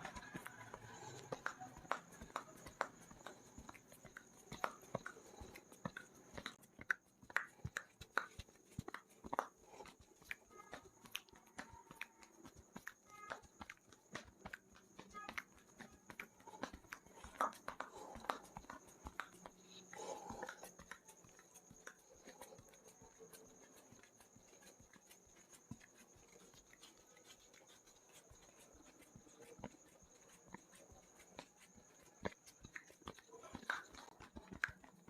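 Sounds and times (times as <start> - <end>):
hands tapping and slapping on body: 0.0 - 35.0.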